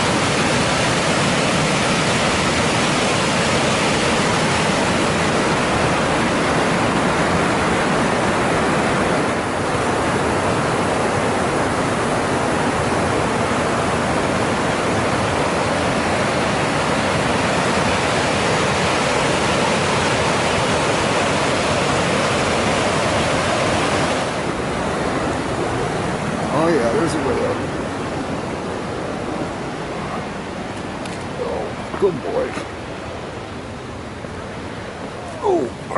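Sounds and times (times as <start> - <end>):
whitewater rushing through gorge: 0.0 - 35.9.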